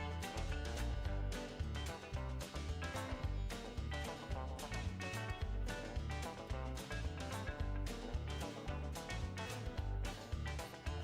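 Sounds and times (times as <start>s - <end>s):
background music with guitar and bass: 0.0s - 11.0s.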